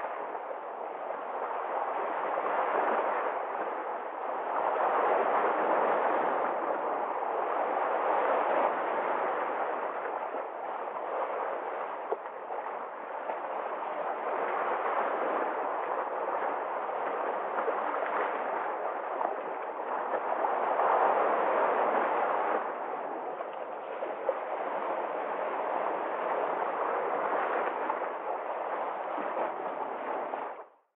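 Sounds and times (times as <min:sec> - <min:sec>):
waves breaking on rocks: 0:00.0 - 0:30.6.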